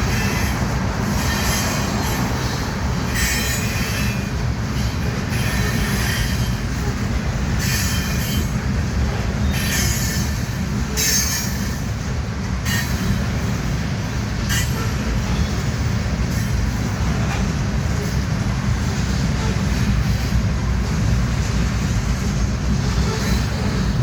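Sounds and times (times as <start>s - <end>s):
freight train rumbling past: 0.0s - 24.0s
wheels squealing on rails: 0.0s - 24.0s.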